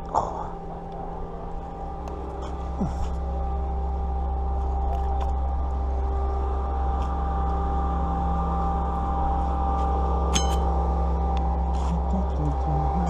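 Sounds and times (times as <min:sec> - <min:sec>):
constant whine: 0:00.0 - 0:13.0
low engine hum: 0:00.0 - 0:13.0.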